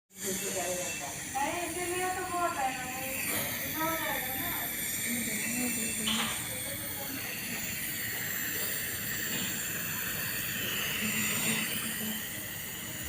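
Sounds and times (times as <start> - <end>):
nebulizer hissing: 0.2 - 13.0.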